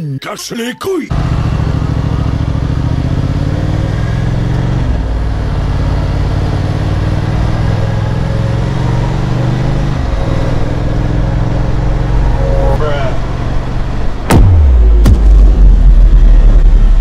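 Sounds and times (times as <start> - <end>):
motorcycle engine accelerating: 1.1 - 17.0.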